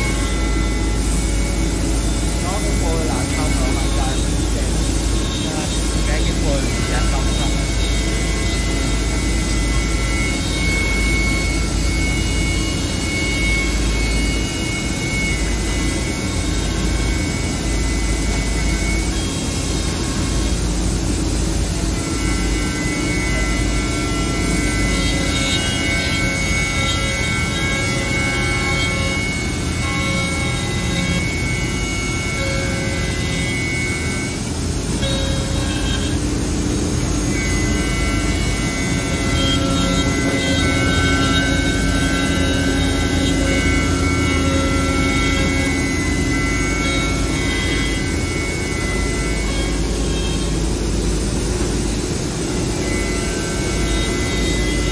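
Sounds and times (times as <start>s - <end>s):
machine low rumble: 0.0s - 54.9s
router spindle whine: 0.0s - 54.9s.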